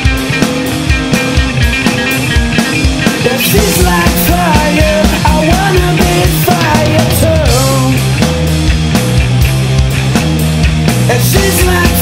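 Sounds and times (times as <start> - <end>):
bass guitar: 0.0 - 12.0
funk rock band playing: 0.0 - 12.0
steady drum beat: 0.0 - 12.0.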